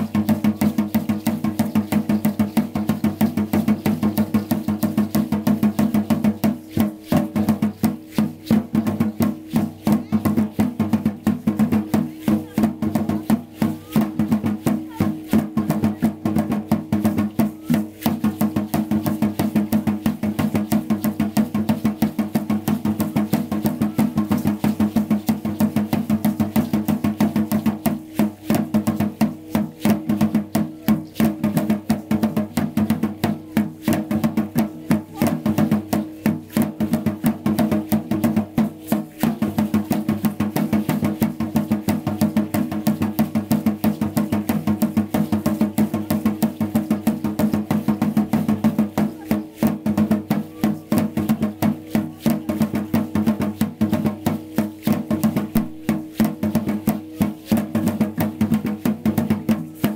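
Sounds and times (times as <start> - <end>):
fast steady drumming: 0.0 - 59.9.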